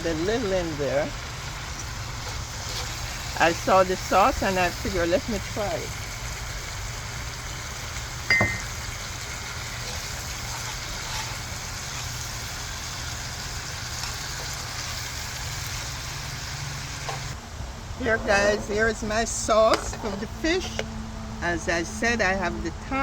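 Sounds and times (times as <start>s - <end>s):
low rumble with faint hiss: 0.0s - 23.0s.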